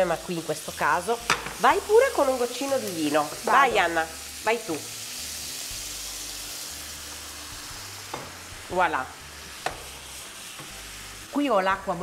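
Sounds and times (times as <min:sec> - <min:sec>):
seafood sizzling in a frying pan: 0:00.0 - 0:12.0.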